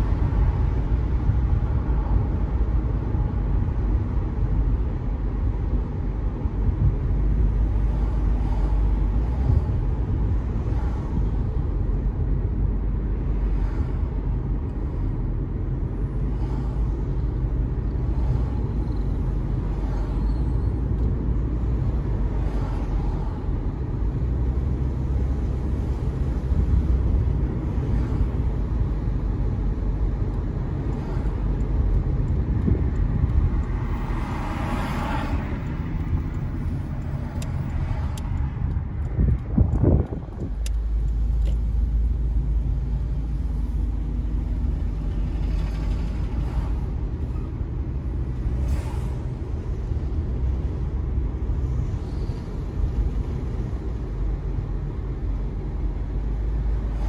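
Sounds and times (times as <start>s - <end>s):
car tyre and road rumble: 0.0s - 57.0s.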